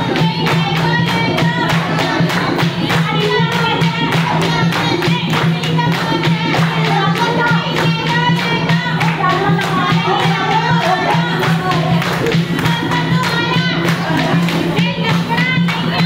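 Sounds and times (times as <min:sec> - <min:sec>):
fast percussion beat: 0:00.0 - 0:16.0.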